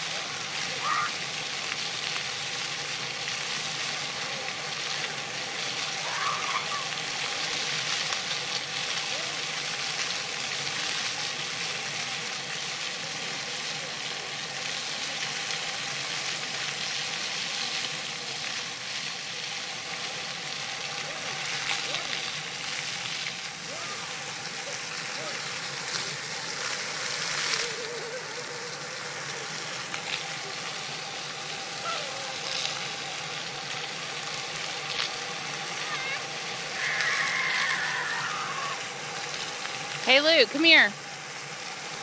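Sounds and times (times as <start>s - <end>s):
fountain jets splashing on paving: 0.0s - 42.0s.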